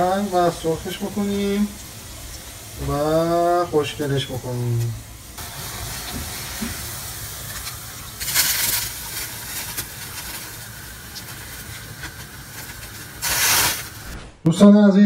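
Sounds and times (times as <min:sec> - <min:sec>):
patties sizzling in oil: 0:00.0 - 0:14.1.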